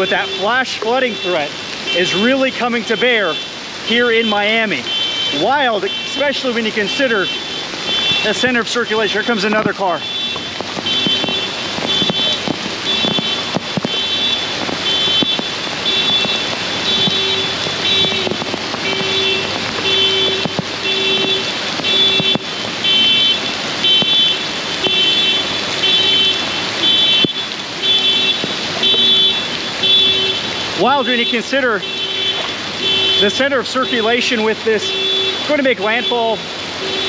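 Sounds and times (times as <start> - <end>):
car alarm horn pulsing: 0.0 - 2.3, 2.9 - 37.0
heavy rain hissing: 0.0 - 37.0.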